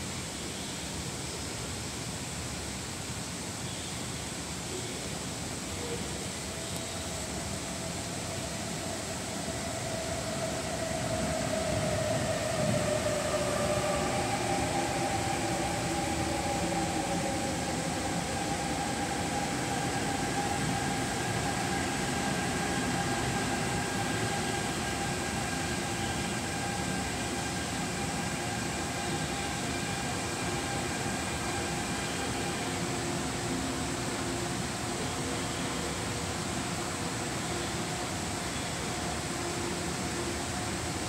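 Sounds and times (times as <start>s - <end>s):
electric train whine: 4.3s - 41.0s
train wheels rumbling on rails: 5.5s - 41.0s.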